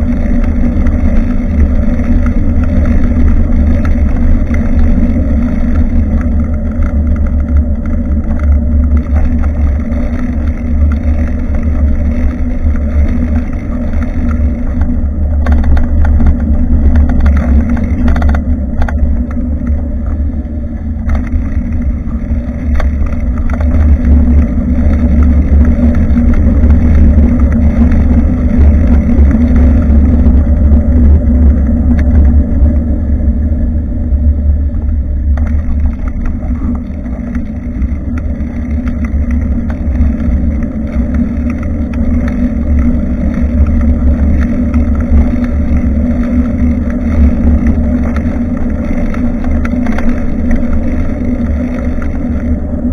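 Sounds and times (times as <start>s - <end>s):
road and tyre noise: 0.0s - 52.9s
wind rumbling on microphone: 0.0s - 52.9s.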